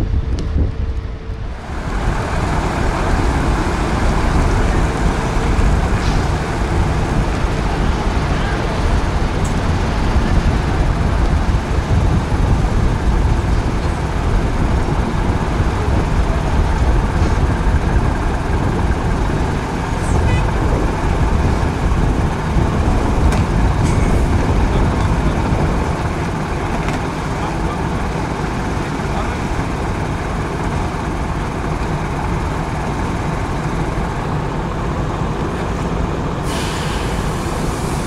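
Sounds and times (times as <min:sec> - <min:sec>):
traffic noise: 0:00.0 - 0:38.0
vehicle and ship engines rumbling: 0:00.0 - 0:38.0.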